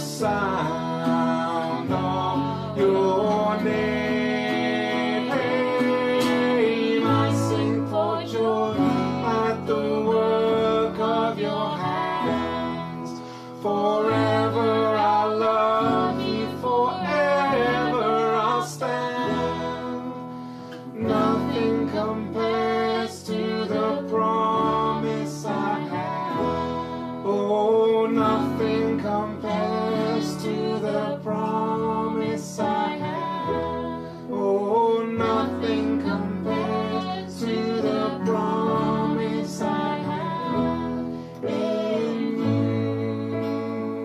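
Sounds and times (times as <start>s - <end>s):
slow background music: 0.0s - 44.0s.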